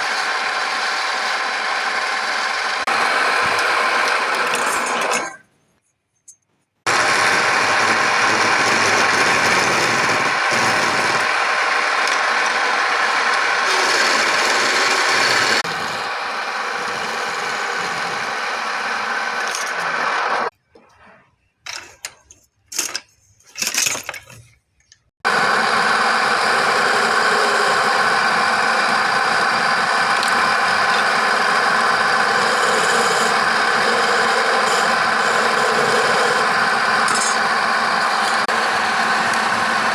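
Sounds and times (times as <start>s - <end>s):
wood lathe cutting wood: 0.0s - 5.4s, 6.9s - 20.5s, 25.2s - 39.9s.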